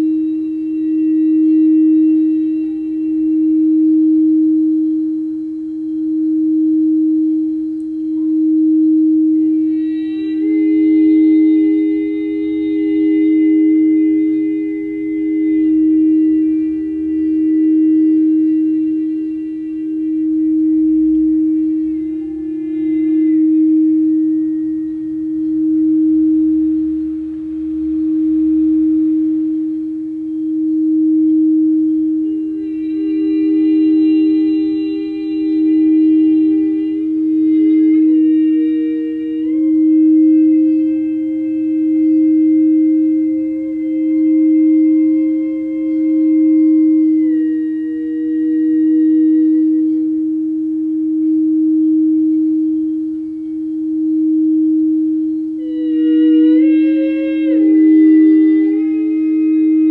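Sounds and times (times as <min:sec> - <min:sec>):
singing bowl low tone: 0:00.0 - 0:59.9.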